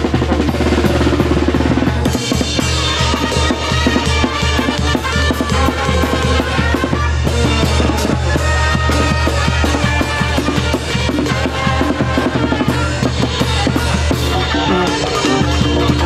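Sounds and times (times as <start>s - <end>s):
bass drum beats: 0.0s - 16.0s
snare drum: 0.0s - 16.0s
sustained band instrument notes: 0.0s - 16.0s.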